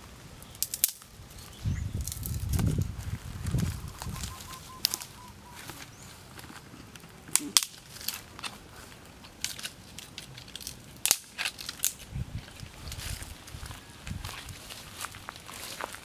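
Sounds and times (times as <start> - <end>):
rustle of wood and leaves: 0.0 - 16.0
dry twigs snapping: 0.4 - 16.0.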